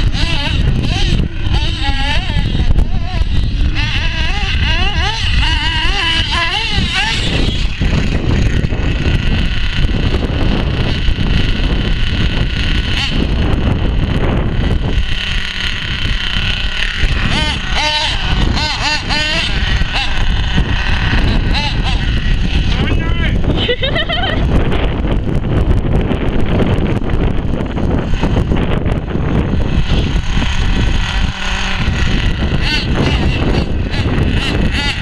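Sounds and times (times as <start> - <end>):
toy car motors revving: 0.0 - 35.0
wind noise on microphone: 0.0 - 35.0.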